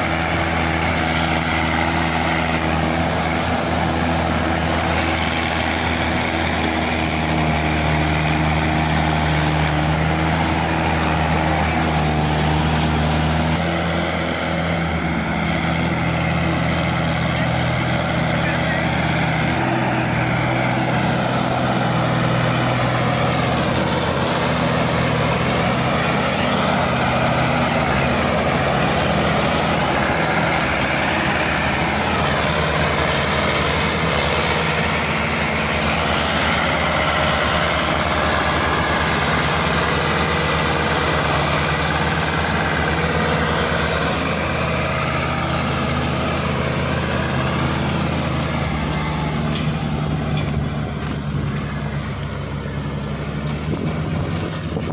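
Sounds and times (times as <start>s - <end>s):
tractor diesel engines running: 0.0s - 54.9s.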